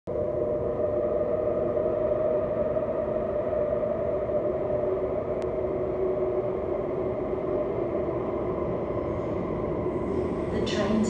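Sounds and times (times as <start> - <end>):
metro station hum and rumble: 0.1 - 11.0
two-tone drone: 0.1 - 11.0.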